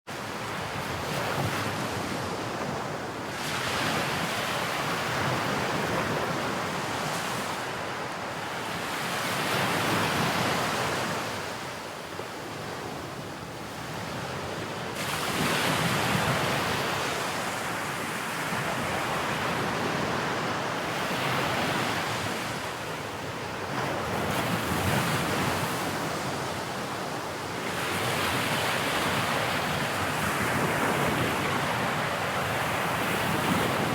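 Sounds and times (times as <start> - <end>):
sea waves breaking on shore: 0.1 - 11.8, 12.5 - 33.9.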